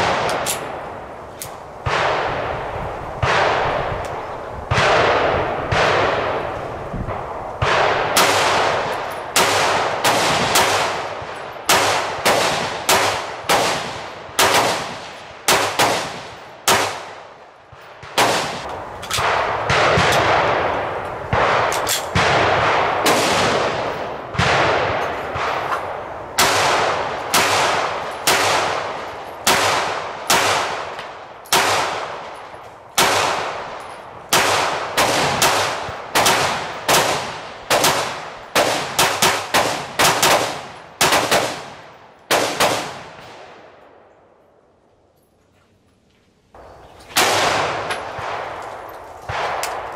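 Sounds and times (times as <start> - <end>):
gunshots with echo: 0.0 - 0.8, 1.8 - 4.0, 4.7 - 43.7, 47.1 - 49.9.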